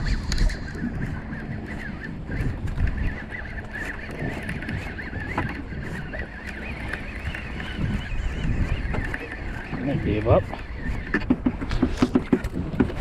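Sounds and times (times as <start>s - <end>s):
steady low rumble: 0.0s - 11.2s
birds warbling chatter: 0.0s - 13.0s.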